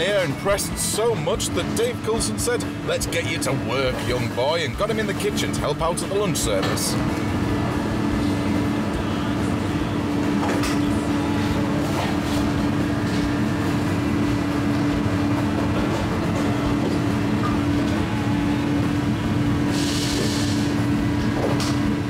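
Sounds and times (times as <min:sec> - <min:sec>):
kitchen machinery humming: 0:00.0 - 0:22.0.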